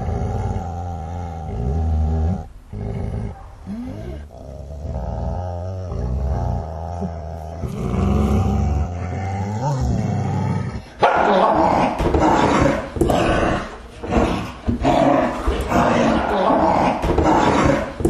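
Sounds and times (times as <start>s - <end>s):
dogs growling and snarling: 0.0s - 18.0s.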